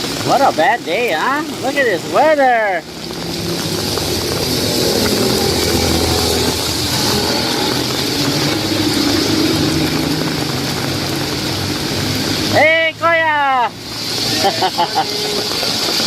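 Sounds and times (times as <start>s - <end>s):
heavy rain hissing: 0.0s - 16.0s
vehicle engine passing on wet road: 0.0s - 16.0s.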